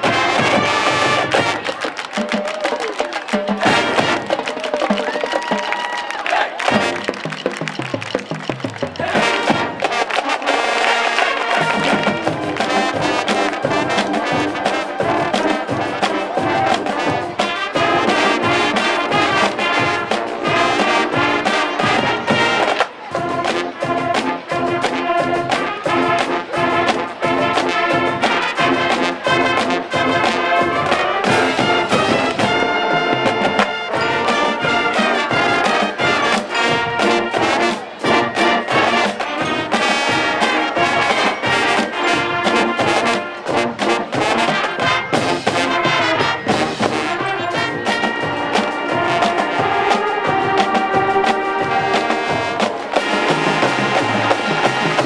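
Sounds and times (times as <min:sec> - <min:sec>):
drumline beat: 0:00.0 - 0:55.0
marching band playing: 0:00.0 - 0:55.0
trumpets and trombones: 0:00.0 - 0:55.0.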